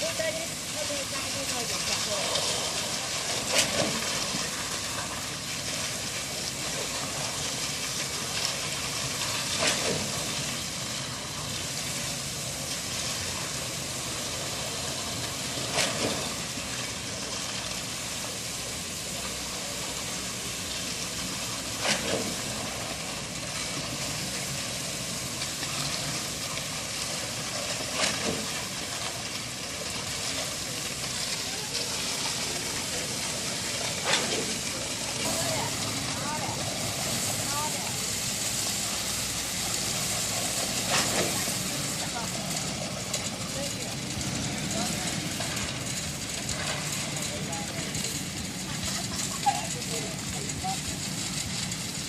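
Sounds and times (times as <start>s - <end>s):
construction machinery engine running: 0.0s - 52.0s.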